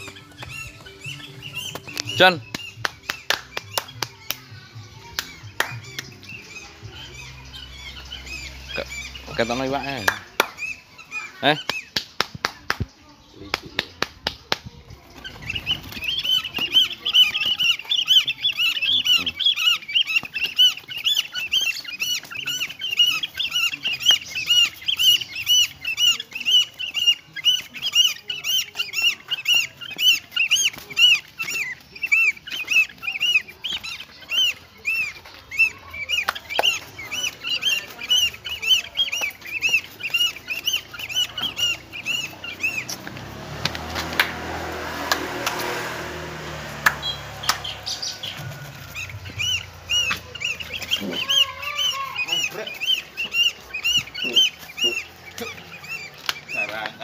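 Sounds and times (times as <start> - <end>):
cormorant squeaky calls: 0.0 - 12.0, 15.0 - 57.0.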